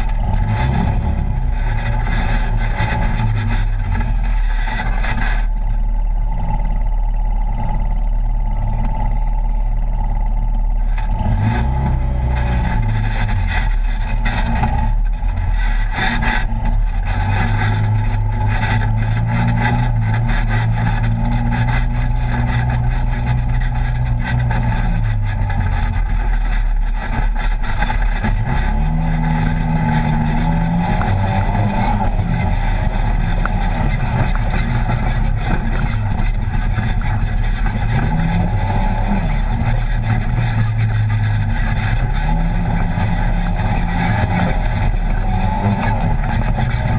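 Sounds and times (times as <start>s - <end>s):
knocks and rattles over bumps: 0.0s - 46.9s
vehicle engine running: 0.0s - 46.9s.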